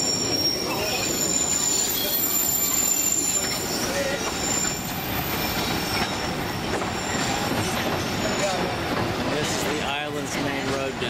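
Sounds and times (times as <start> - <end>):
train rolling: 0.0 - 11.0
wheels squealing on rails: 0.0 - 11.0.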